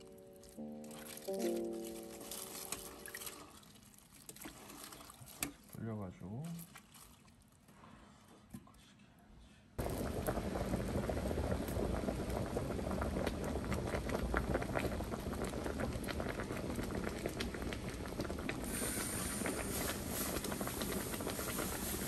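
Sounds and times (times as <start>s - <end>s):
soup boiling hard: 0.2s - 5.6s, 9.8s - 22.0s.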